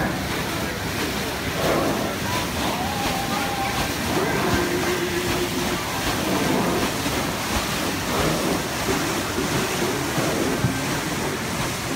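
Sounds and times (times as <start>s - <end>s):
paddlewheel churning water: 0.0s - 11.9s.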